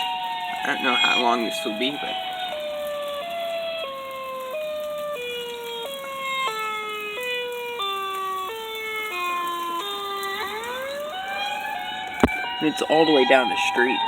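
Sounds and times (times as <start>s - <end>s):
storm warning siren wailing: 0.0s - 14.0s.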